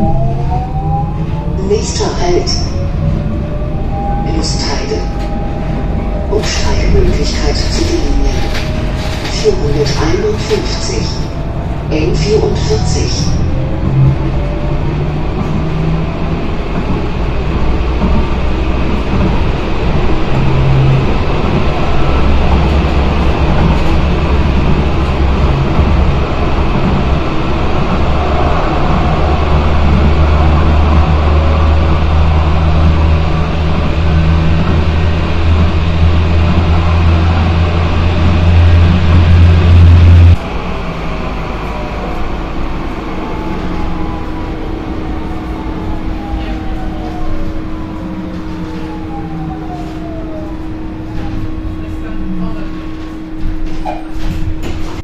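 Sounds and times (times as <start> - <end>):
tram wheels rumbling on track: 0.0 - 55.0.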